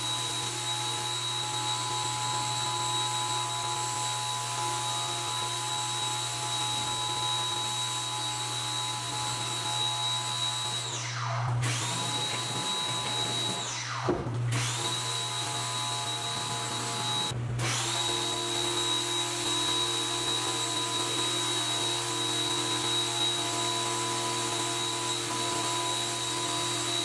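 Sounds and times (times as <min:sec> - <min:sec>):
pump motor whine: 0:00.0 - 0:27.0.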